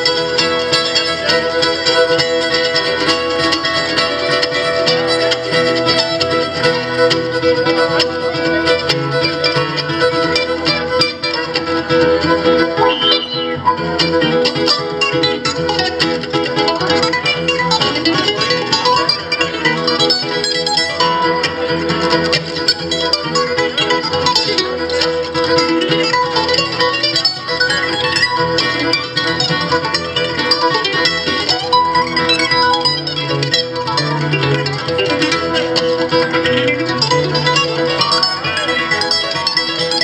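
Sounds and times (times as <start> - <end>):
acoustic string band playing: 0.0 - 40.0.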